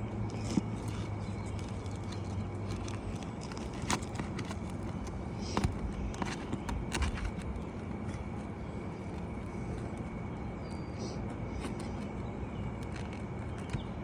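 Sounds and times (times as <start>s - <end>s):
low outdoor rumble: 0.0s - 14.0s
clicks and scrapes on shingles: 0.2s - 14.0s.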